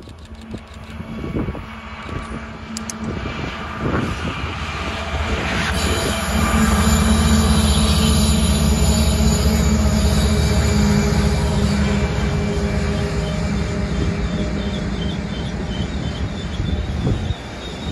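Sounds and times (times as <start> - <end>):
diesel locomotives droning past: 0.0 - 17.9.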